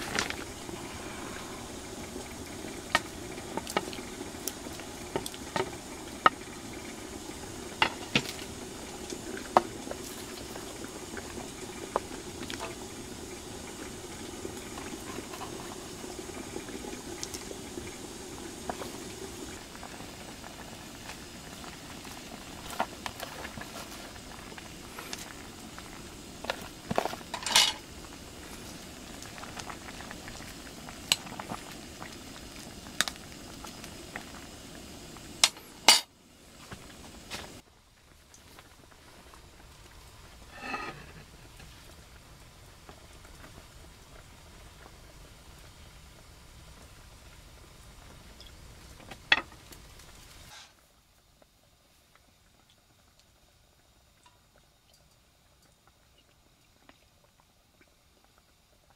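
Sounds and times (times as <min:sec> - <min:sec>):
broth bubbling at a boil: 0:00.0 - 0:58.9.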